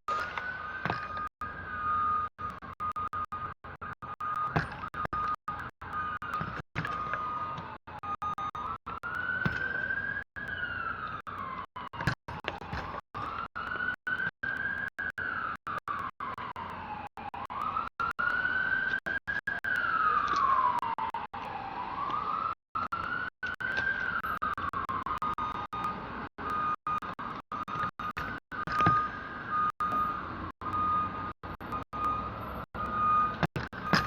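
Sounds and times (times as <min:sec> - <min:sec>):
emergency siren wailing: 0:00.1 - 0:34.0.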